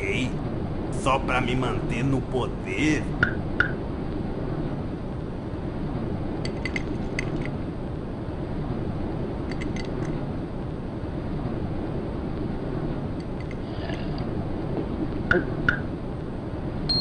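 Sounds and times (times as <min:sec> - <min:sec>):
aircraft cabin drone: 0:00.0 - 0:17.0.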